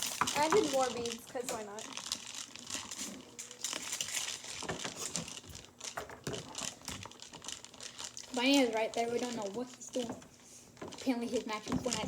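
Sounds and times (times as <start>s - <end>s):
beads crackling in slime: 0.0s - 12.0s.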